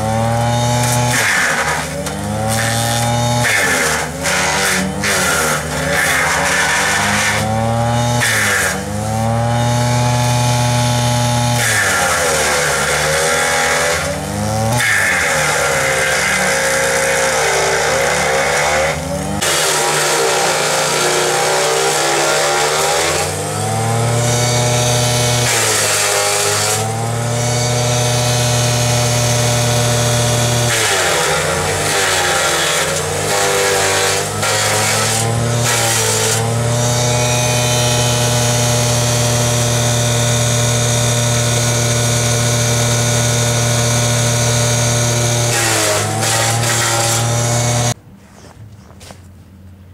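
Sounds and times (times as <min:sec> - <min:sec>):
wood chipper shredding branches: 0:00.0 - 0:48.0.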